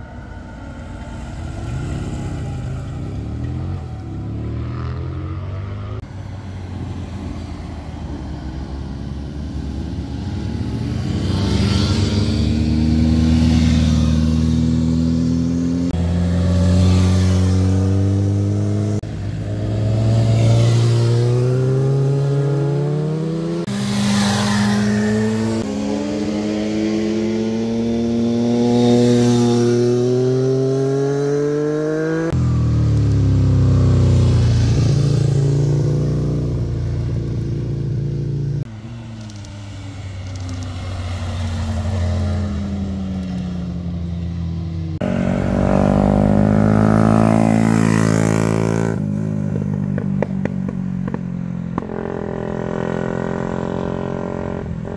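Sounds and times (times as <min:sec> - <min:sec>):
motorcycles passing by accelerating: 0:00.0 - 0:54.9.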